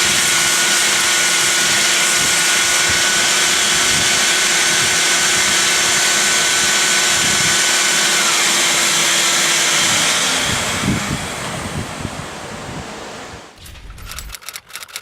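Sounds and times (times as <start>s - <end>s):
belt sander whining: 0.0s - 15.0s.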